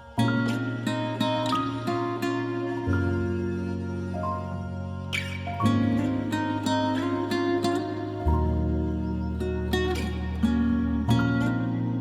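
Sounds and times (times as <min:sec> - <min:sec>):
soft plucked music with bass: 0:00.0 - 0:12.0.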